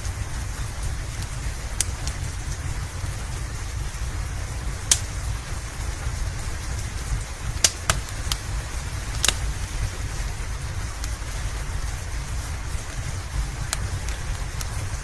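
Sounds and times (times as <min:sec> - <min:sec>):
low rumble: 0:00.0 - 0:15.0
steady rain hiss: 0:00.0 - 0:15.0
wood fire popping: 0:00.0 - 0:15.0.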